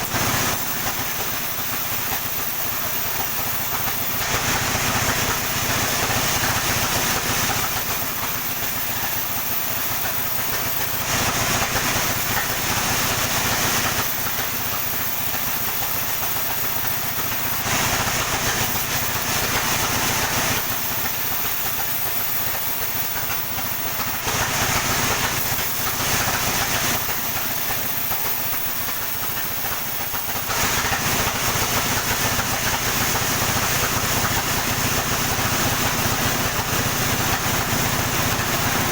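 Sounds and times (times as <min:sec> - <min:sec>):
saw cutting palm trunk hissing: 0:00.0 - 0:38.9
sawmill engine hum: 0:00.0 - 0:38.9.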